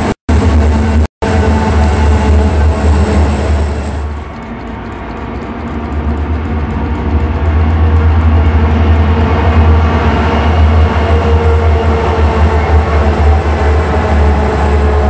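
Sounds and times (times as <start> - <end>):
diesel locomotives passing: 0.0 - 15.0
train wheels rumbling on rail: 0.0 - 15.0.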